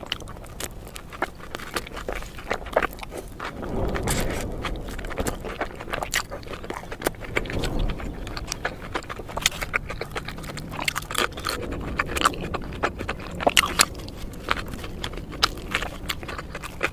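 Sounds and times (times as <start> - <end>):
person chewing sandwich: 0.0 - 16.9.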